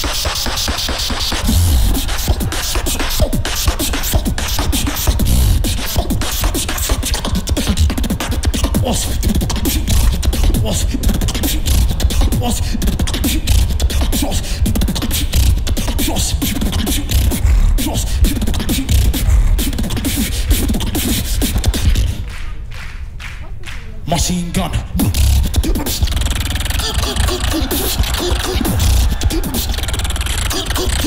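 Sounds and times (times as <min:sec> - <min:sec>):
heavy bass: 0:00.0 - 0:22.6, 0:24.8 - 0:31.0
beatboxing into microphone: 0:00.0 - 0:31.0.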